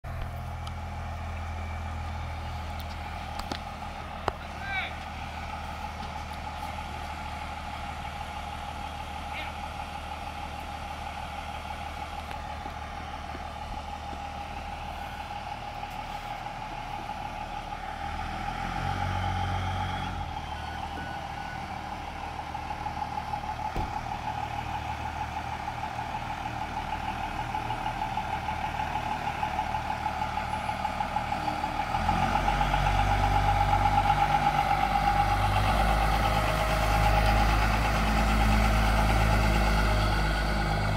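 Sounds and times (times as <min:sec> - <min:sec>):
truck engine driving past: 0:00.0 - 0:40.9.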